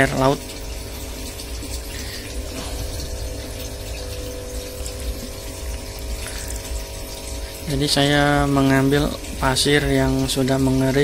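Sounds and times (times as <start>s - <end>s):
small pump humming: 0.0s - 11.0s.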